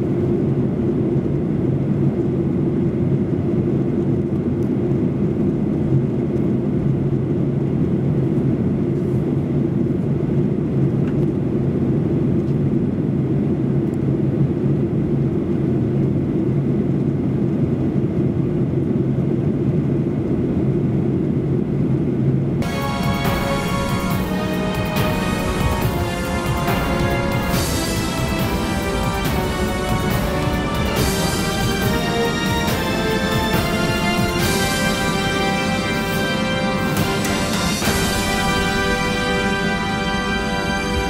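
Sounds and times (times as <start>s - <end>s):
airplane cabin engine drone: 0.0s - 41.0s
low hum: 0.0s - 41.0s.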